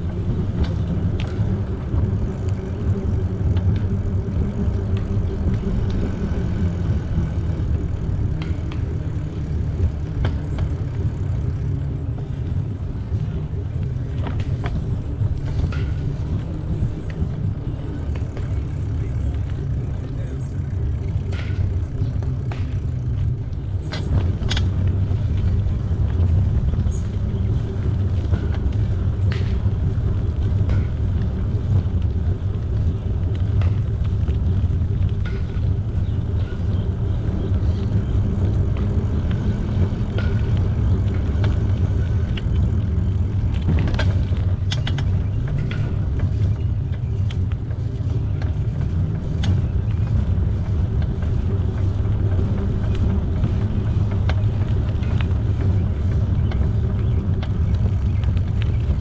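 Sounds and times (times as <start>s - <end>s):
bicycle rumbling on trail: 0.0s - 59.0s
sharp clicks and rattles: 0.0s - 59.0s.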